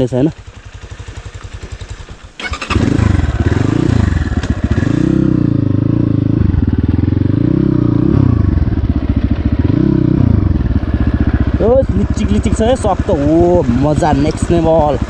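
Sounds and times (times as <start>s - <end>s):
dirt bike engine revving: 0.4s - 15.0s.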